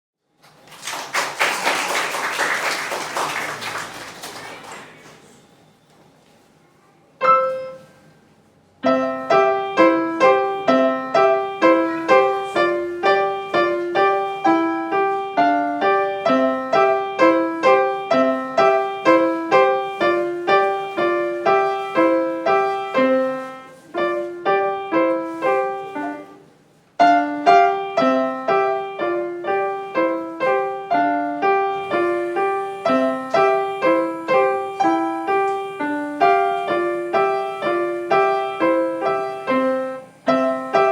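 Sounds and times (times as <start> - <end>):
solo piano playing: 7.2 - 8.0, 8.8 - 40.9.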